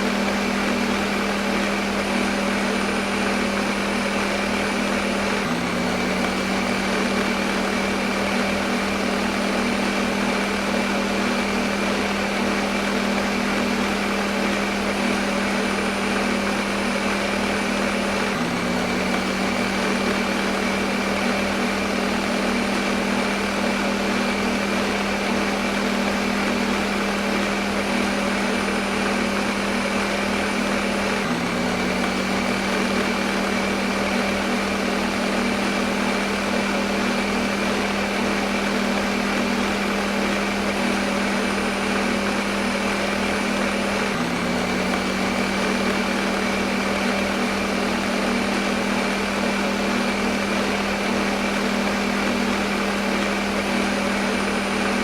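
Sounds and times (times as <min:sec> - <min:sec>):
electric blender running: 0:00.0 - 0:55.0.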